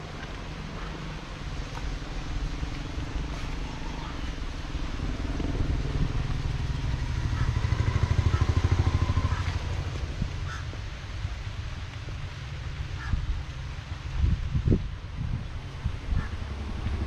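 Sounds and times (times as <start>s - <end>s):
vehicle engine throbbing: 0.0s - 17.0s.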